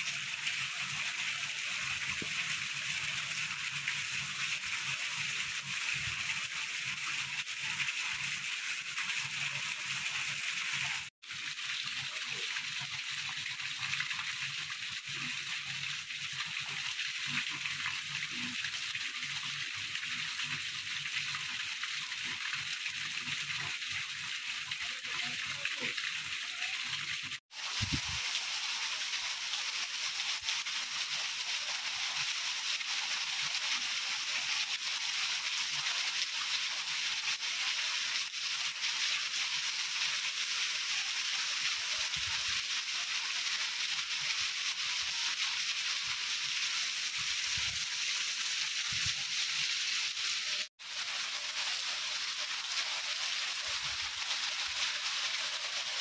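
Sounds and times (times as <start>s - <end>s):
rainwater gushing from drainpipe: 0.0s - 56.0s.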